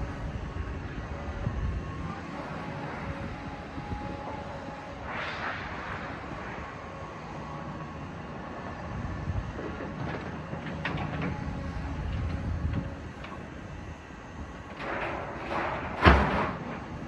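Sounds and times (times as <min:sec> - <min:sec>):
demolition machinery rumble: 0:00.0 - 0:17.0.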